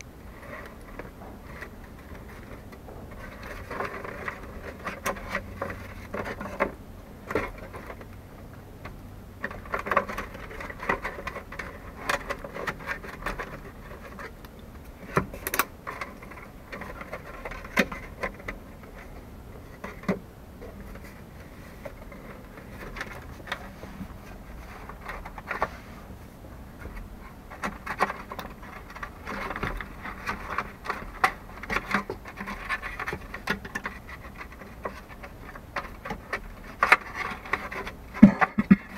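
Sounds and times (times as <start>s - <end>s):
plastic clicks knocks and scraping: 0.4s - 8.2s, 8.8s - 25.7s, 26.8s - 38.9s.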